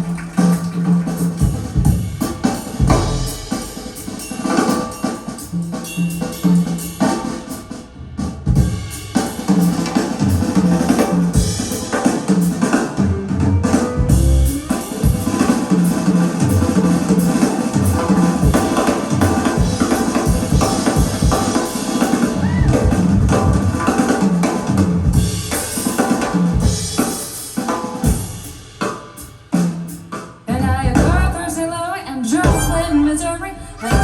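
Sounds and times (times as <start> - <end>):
music with drums and bass: 0.0 - 31.4, 32.4 - 33.2.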